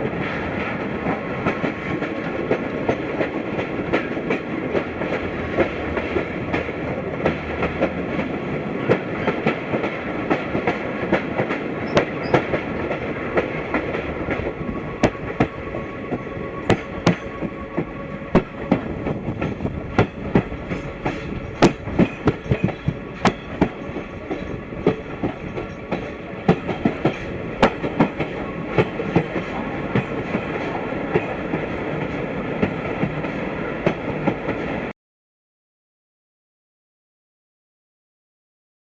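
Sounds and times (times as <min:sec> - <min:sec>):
clickety-clack over rail joints: 0:00.0 - 0:34.9
rumble of train wheels on rail: 0:00.0 - 0:34.9.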